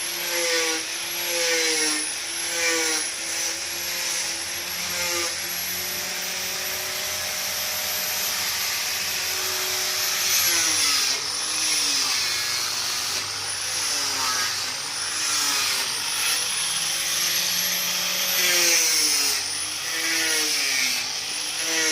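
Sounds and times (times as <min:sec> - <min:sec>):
sawmill saw whining: 0:00.0 - 0:21.9.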